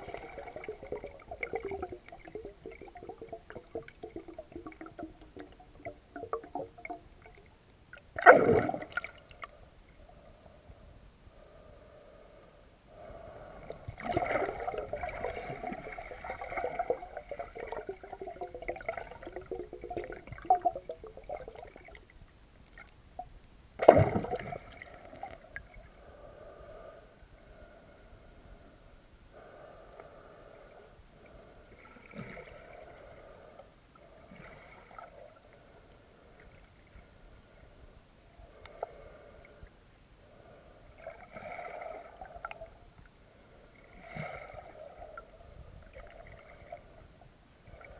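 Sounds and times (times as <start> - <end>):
muffled underwater river rushing: 0.0 - 47.9.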